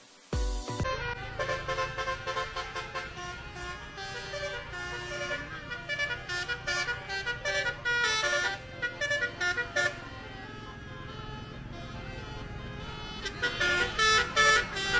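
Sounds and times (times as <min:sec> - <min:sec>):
musical air horn tune: 0:00.4 - 0:14.9
air horn blasts: 0:00.8 - 0:14.9
bus engine running: 0:00.8 - 0:14.9.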